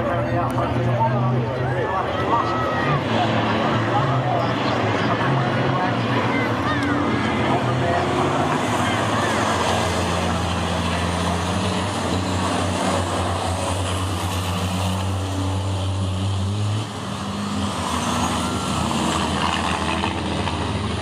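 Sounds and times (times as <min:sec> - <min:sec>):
truck diesel engines droning: 0:00.0 - 0:21.0.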